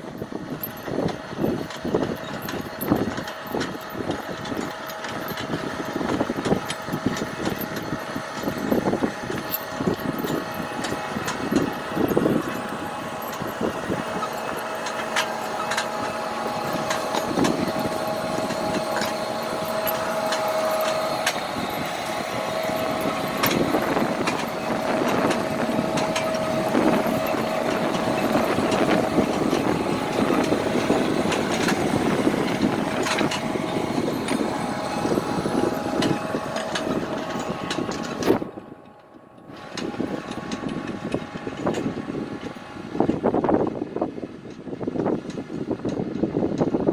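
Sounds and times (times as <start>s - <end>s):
steady engine whine: 0.0s - 46.9s
tractor engine running under load: 0.0s - 46.9s
implement clicking and knocking: 0.6s - 43.2s.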